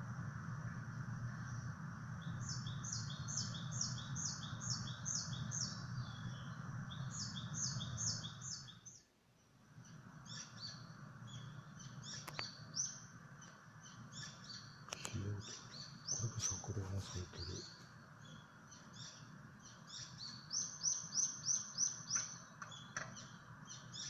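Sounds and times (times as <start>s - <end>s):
background hiss: 0.0s - 24.0s
songbird singing repeated notes: 1.3s - 24.0s
bird chirps and calls: 2.2s - 9.1s, 9.8s - 24.0s.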